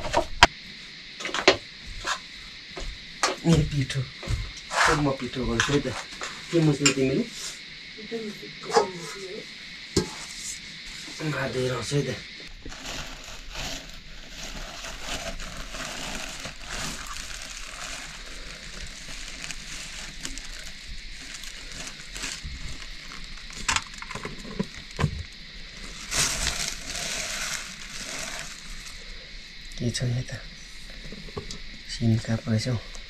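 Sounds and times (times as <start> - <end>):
steady cooking hiss: 0.0 - 33.0.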